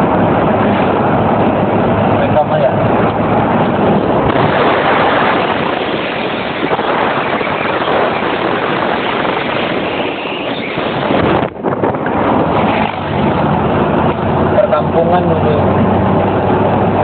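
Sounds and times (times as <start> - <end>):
car road noise: 0.0 - 17.0
wind rushing: 0.0 - 17.0.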